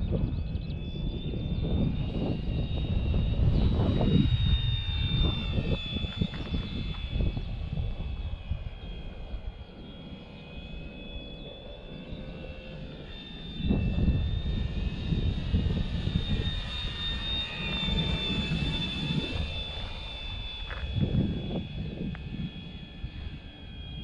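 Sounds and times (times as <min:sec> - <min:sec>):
rc plane motor whining: 0:00.0 - 0:24.0
wind rumble on microphone: 0:00.0 - 0:24.0.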